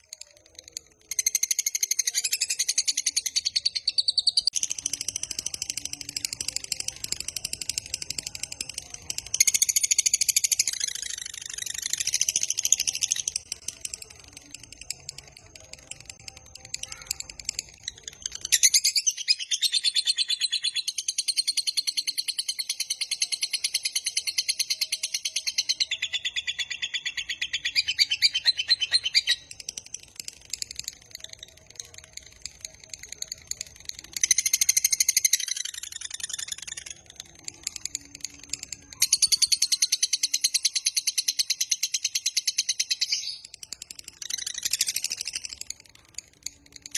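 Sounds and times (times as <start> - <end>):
lovebird chattering trills: 0.0 - 46.9.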